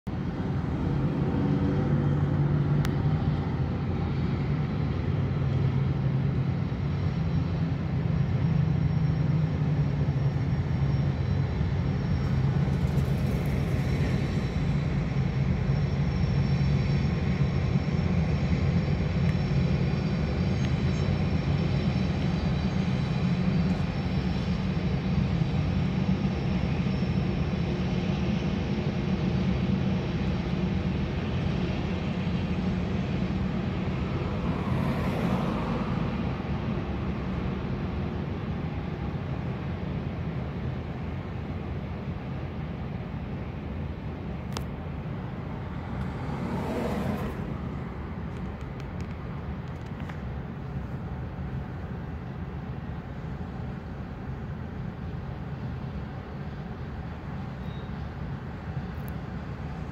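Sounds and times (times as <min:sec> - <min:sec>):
diesel locomotive drone: 0:00.0 - 0:59.9
traffic noise: 0:00.1 - 0:59.9.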